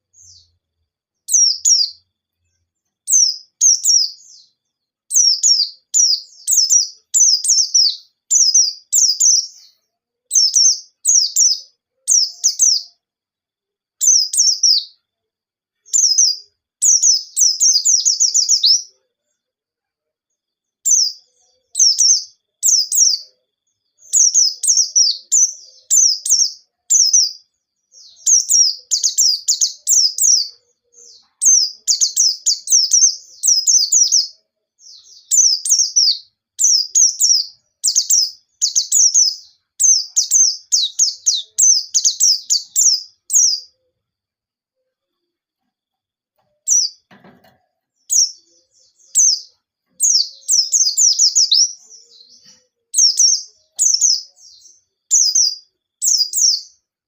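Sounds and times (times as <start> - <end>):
bird singing high twittering phrases: 0.0 - 13.0, 14.0 - 15.1, 15.8 - 19.0, 20.6 - 43.8, 46.4 - 56.9.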